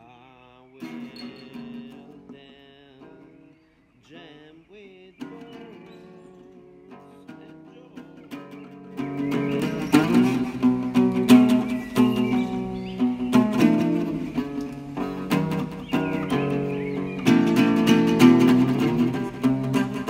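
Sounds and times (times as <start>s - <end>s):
classical guitar fingerpicking blues: 0.0s - 20.0s.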